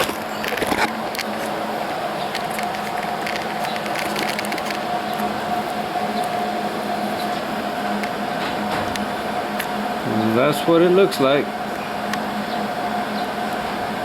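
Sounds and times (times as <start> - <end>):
fan hum with held tone: 0.0 - 14.0.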